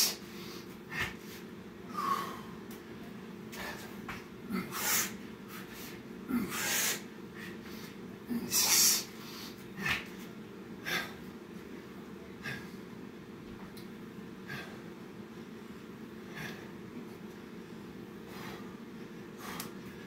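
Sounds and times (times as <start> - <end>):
man breathing hard: 0.0 - 2.7, 3.5 - 11.4, 12.4 - 12.9, 14.4 - 20.0
steady low hum: 0.0 - 20.0.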